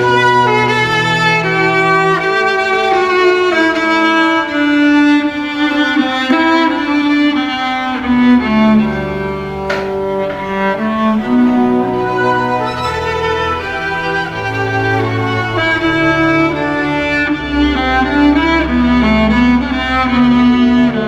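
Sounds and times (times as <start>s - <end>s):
lower strings: 0.0s - 21.0s
violins playing slow melody: 0.0s - 21.0s.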